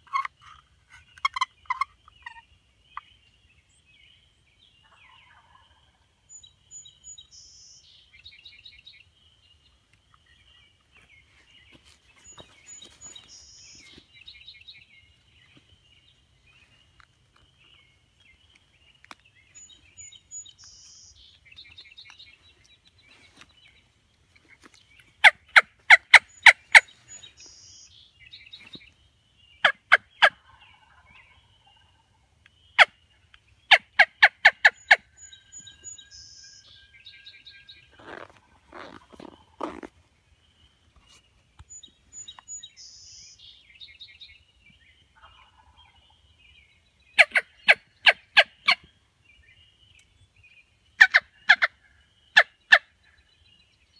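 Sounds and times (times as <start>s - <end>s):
dawn bird chorus: 0.0s - 53.9s
songbird singing: 0.0s - 53.9s.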